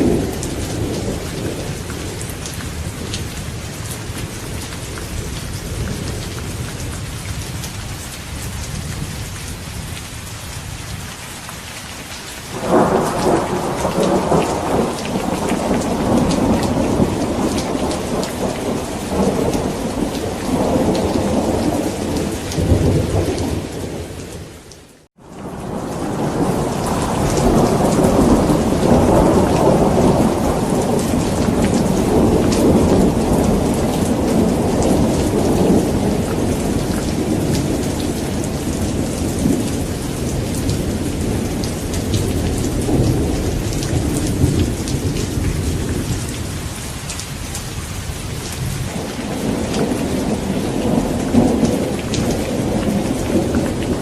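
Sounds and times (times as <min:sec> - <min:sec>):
rolling thunder: 0:00.0 - 0:07.6, 0:12.5 - 0:24.4, 0:25.4 - 0:46.7, 0:48.2 - 0:54.0
heavy rain: 0:00.0 - 0:54.0.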